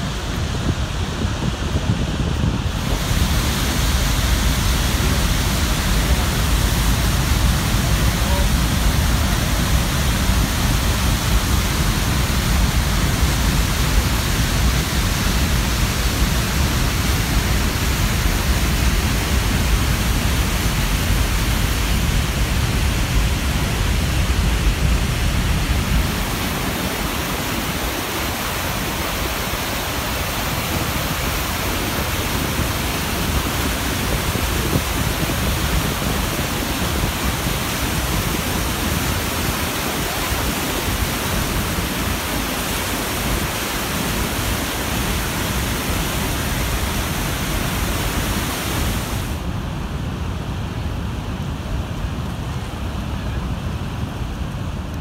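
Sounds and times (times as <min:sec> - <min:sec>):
waterfall roaring: 0:00.0 - 0:55.0
white-water rapids rushing: 0:02.6 - 0:49.6.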